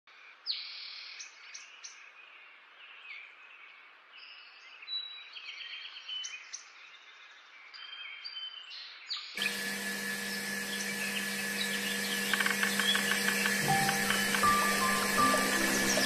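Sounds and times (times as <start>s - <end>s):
small birds chirping: 0.5s - 16.0s.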